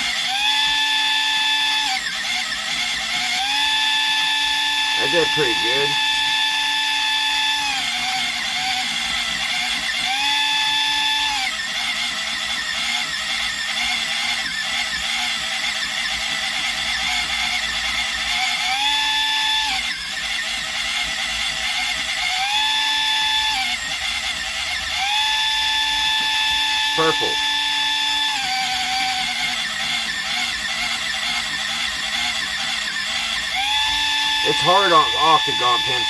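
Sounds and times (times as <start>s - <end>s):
electric pencil sharpener whining: 0.0s - 36.0s.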